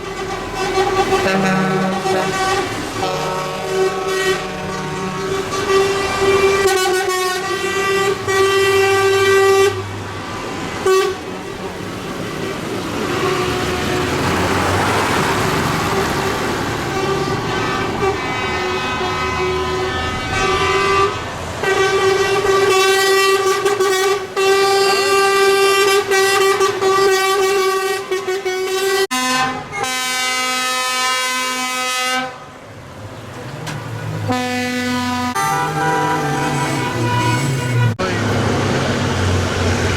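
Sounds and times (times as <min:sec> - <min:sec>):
vehicle horns blasting: 0:00.0 - 0:10.1, 0:10.8 - 0:11.7, 0:13.0 - 0:32.5, 0:34.2 - 0:38.3
tractor engines rumbling: 0:00.0 - 0:39.9.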